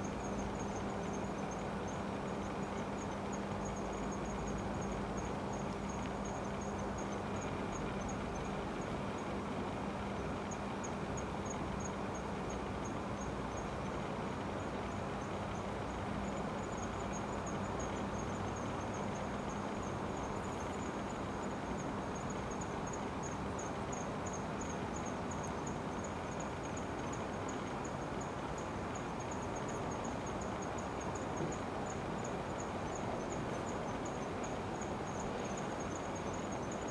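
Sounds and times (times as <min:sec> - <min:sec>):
insect chirping: 0:00.0 - 0:36.9
outdoor hiss: 0:00.0 - 0:36.9.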